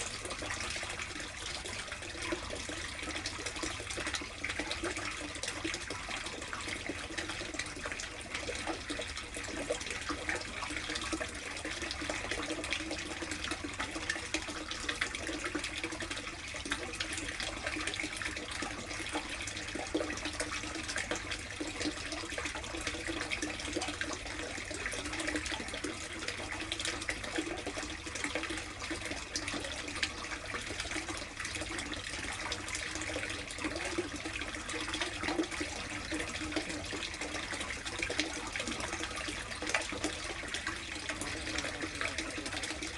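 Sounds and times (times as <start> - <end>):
water splashing into a tub: 0.0 - 42.9.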